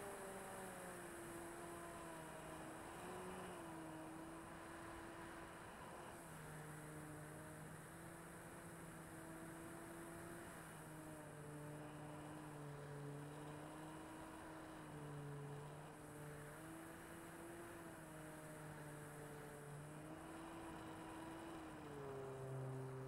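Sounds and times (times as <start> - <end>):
model plane electric motor hum: 0.0 - 23.0.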